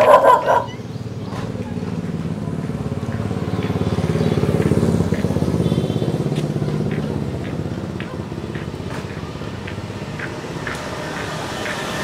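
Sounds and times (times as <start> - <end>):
motorbike engine passing: 0.0 - 12.0.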